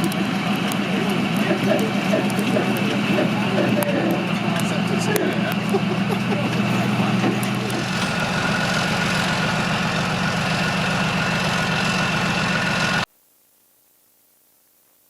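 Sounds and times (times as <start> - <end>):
heavy vehicle engine idling: 0.0 - 13.1.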